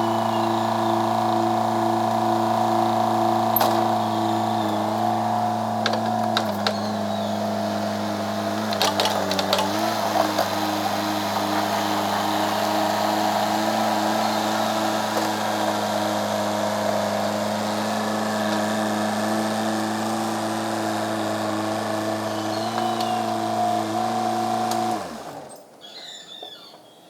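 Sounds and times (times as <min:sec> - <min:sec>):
engine running: 0:00.0 - 0:25.5.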